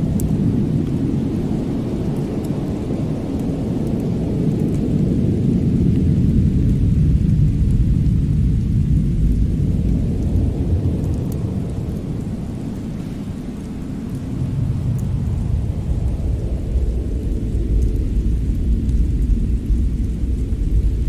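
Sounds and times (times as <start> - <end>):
rumbling wind: 0.0 - 21.0.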